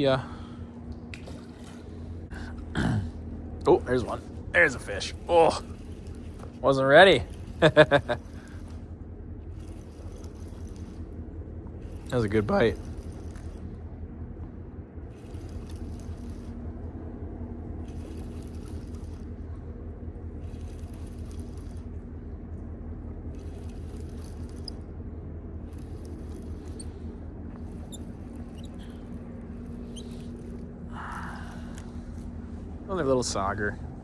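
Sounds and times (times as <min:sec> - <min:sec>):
faint constant hum: 0:00.0 - 0:34.0
low outdoor rumble: 0:00.0 - 0:34.0.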